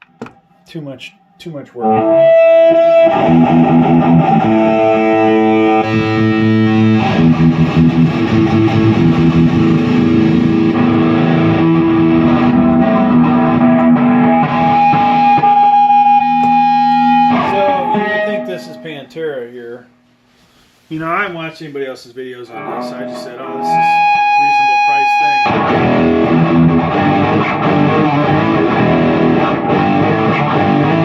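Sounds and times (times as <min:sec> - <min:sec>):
distorted electric guitar: 0:00.0 - 0:20.0, 0:22.5 - 0:31.0.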